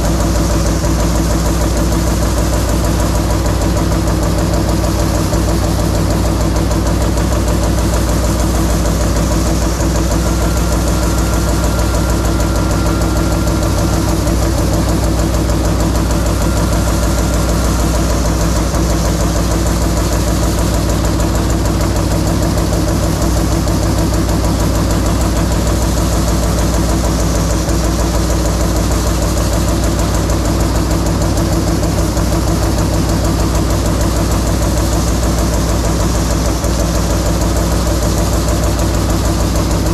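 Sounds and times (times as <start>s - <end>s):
machine low hum: 0.0s - 39.9s.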